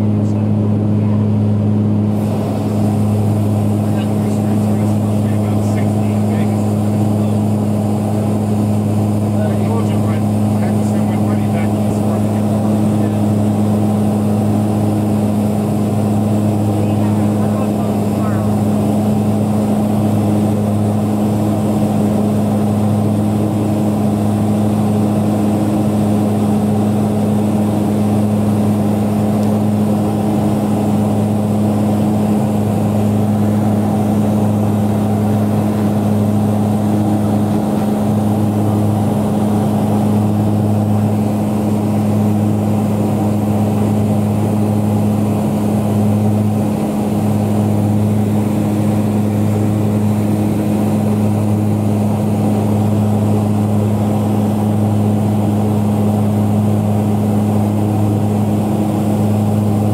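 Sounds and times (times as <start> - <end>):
airplane engine drone in cabin: 0.0 - 59.9.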